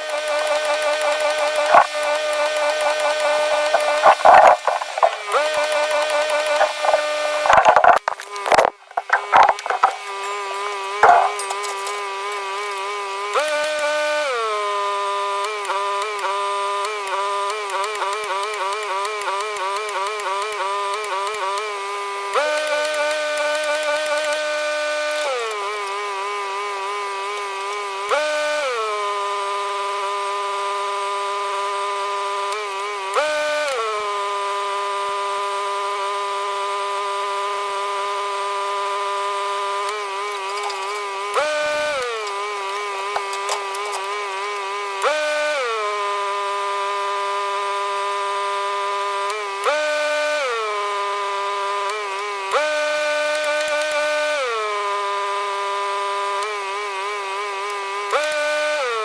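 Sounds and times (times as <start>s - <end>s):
small petrol engine revving: 0.0s - 59.0s.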